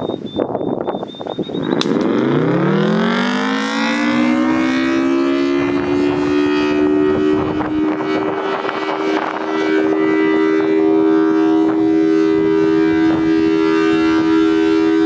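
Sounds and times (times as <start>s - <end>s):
warning siren: 0.0s - 15.0s
wind buffeting microphone: 0.0s - 15.0s.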